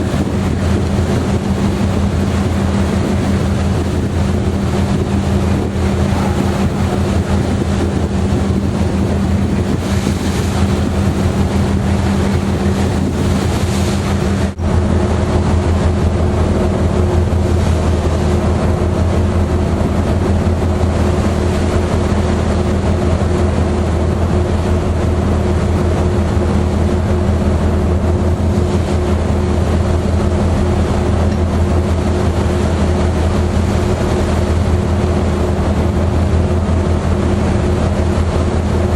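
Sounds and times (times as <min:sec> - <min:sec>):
ferry engines droning: 0:00.0 - 0:38.9
wind and water rushing: 0:00.0 - 0:38.9.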